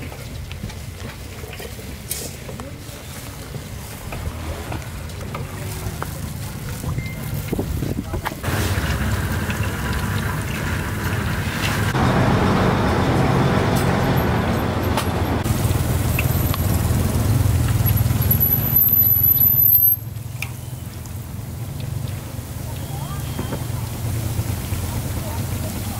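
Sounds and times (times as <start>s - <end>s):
vehicle engine rumbling: 0.0s - 25.9s.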